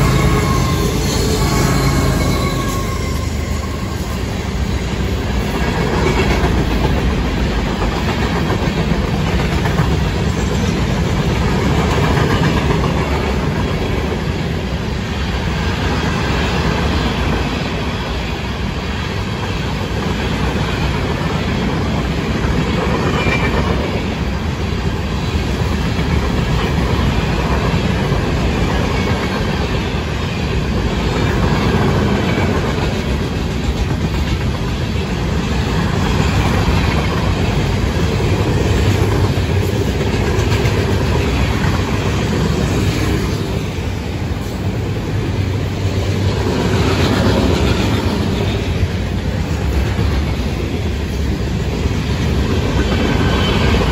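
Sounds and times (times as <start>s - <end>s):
freight train wheels rolling: 0.0s - 53.9s.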